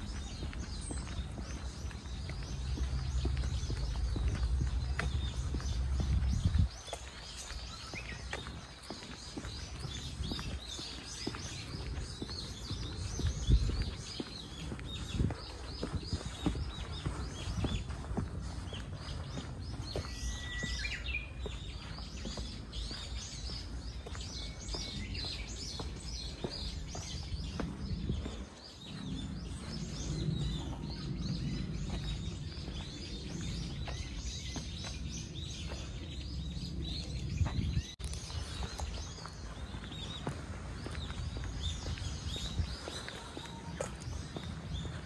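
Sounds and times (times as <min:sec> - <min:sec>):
low outdoor rumble: 0:00.0 - 0:20.0, 0:21.2 - 0:45.0
light footsteps on trail: 0:00.0 - 0:45.0
small birds chirping: 0:00.0 - 0:45.0.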